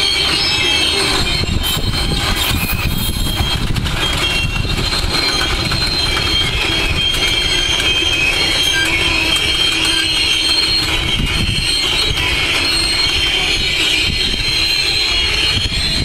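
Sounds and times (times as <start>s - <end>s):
freight wagons rumbling on rails: 0.0s - 16.0s
wheels squealing: 0.0s - 16.0s.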